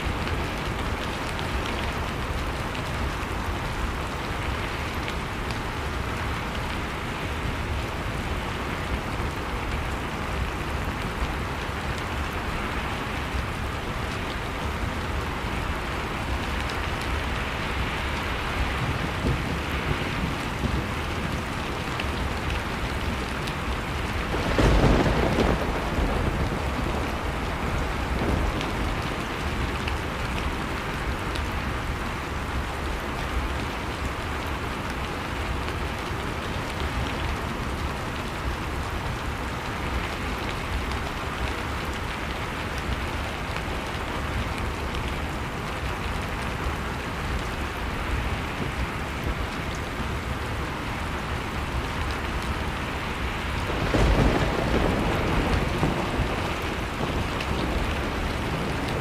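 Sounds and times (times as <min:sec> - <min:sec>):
fire crackling: 0:00.0 - 0:59.0
rushing storm noise: 0:00.0 - 0:59.0.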